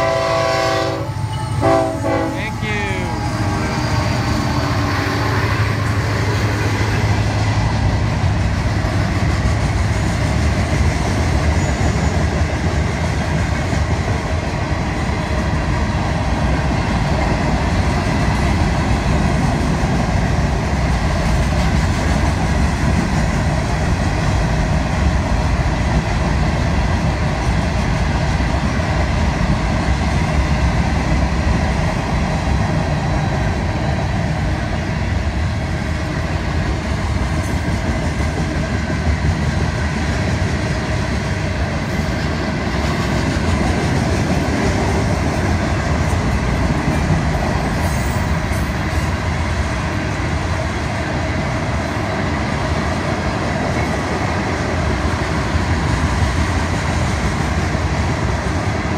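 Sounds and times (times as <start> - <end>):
diesel locomotive engine hum: 0.0 - 58.9
train wheels rolling on rails: 0.0 - 58.9.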